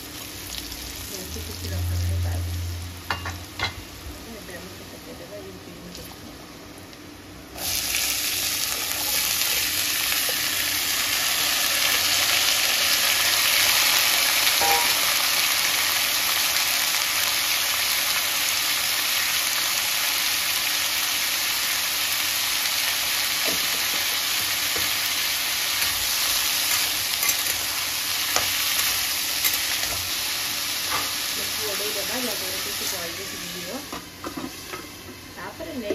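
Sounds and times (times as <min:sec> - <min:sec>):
green beans sizzling in oil: 0:00.0 - 0:02.2, 0:07.5 - 0:35.9.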